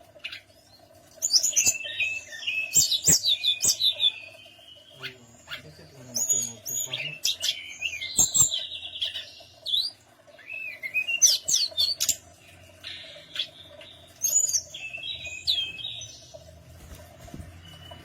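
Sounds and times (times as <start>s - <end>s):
bird chirps and trills: 0.0s - 16.7s, 17.4s - 18.0s.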